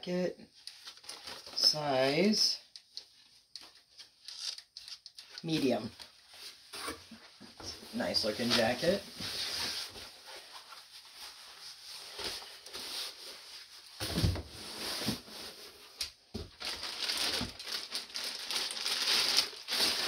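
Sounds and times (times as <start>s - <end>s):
jacket and packaging rustling: 0.5s - 20.0s.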